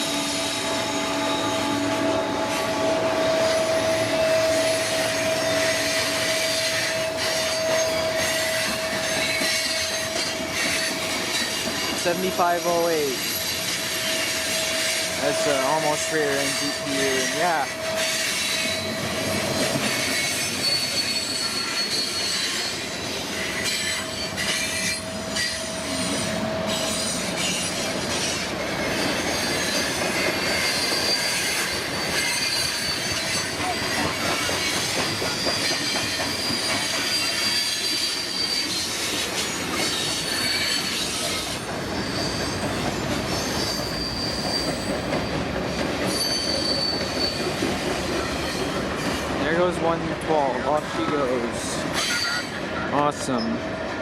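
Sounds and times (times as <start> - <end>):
train wheels squealing: 0.0 - 49.7, 50.4 - 53.9
wheels rumbling and clattering on rail: 0.0 - 54.0.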